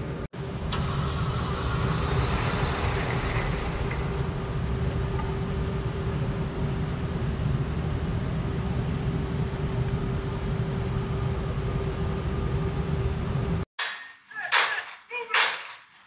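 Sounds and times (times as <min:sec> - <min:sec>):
ventilation noise: 0:00.0 - 0:13.7
target carrier motor humming: 0:00.4 - 0:13.6.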